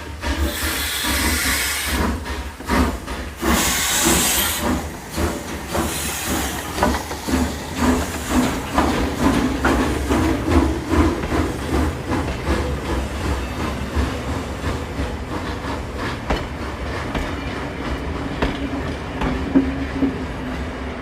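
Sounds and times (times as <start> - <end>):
steam hissing: 0.0 - 18.8
steam locomotive chuffing: 0.0 - 21.0.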